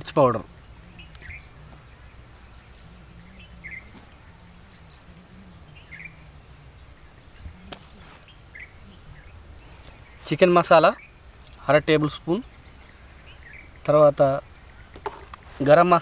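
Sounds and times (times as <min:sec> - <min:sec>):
faint bird chirps: 0:00.4 - 0:15.6.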